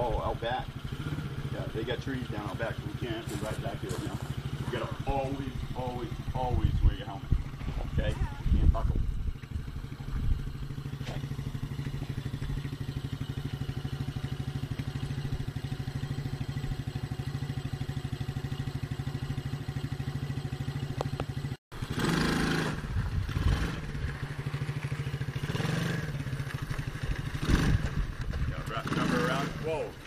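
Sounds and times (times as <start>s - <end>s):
small atv engine idling and revving: 0.0s - 30.0s.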